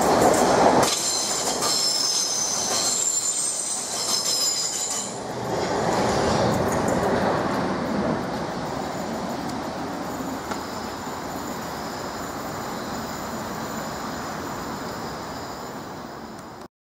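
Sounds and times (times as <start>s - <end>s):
train wheel-on-rail rumble: 0.0s - 16.7s.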